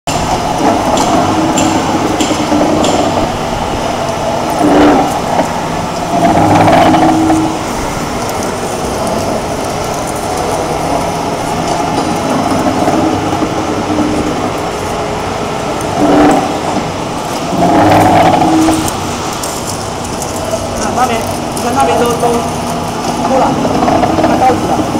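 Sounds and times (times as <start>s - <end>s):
pipe cutting machine droning: 0.1s - 24.9s.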